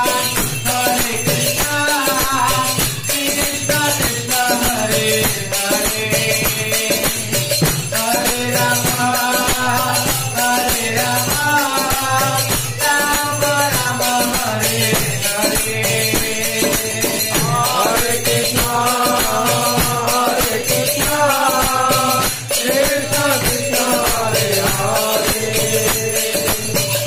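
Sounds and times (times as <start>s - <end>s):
rhythmic jingling percussion: 0.0s - 27.0s
voices singing a chant: 0.0s - 27.0s.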